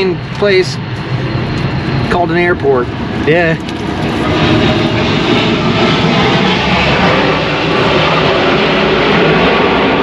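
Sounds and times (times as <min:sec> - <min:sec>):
airplane engine rumble: 0:00.0 - 0:10.0.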